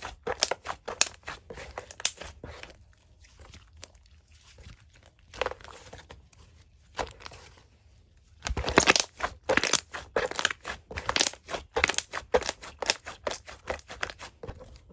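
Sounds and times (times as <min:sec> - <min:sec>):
slime squishing crackly: 0:00.0 - 0:07.6, 0:08.4 - 0:14.6.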